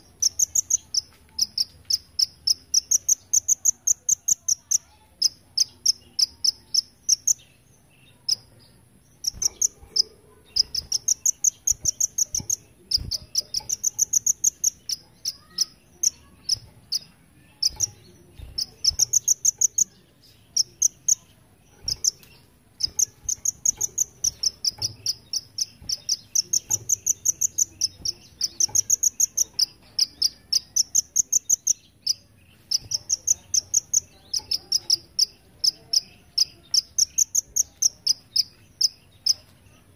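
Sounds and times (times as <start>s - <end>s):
sharp bird chips: 0.0s - 8.5s, 9.1s - 39.5s
bird singing high rapid trills: 0.0s - 39.9s.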